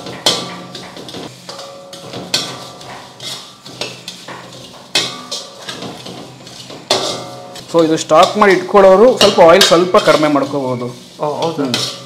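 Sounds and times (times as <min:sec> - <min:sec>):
metal clanks: 0:00.0 - 0:10.5
metal spatula scraping a pan: 0:00.0 - 0:12.0.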